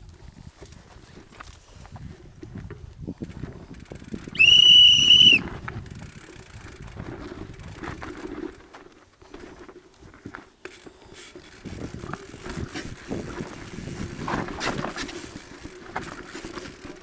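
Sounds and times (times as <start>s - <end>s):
mountain bike rattling: 0.0s - 17.0s
tyres on loose dirt: 0.0s - 17.0s.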